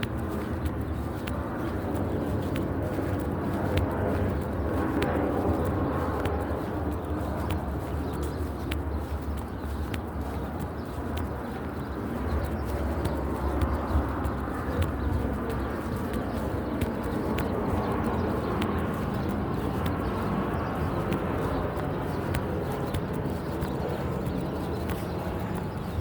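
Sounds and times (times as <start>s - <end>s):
footsteps outdoors: 0.0s - 26.0s.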